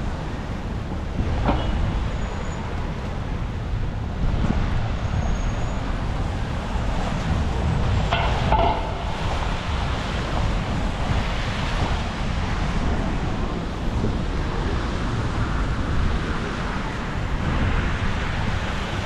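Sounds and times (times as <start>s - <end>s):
rain: 0.0s - 19.0s
traffic on wet roads: 0.0s - 19.0s
wind buffeting microphone: 0.0s - 19.0s.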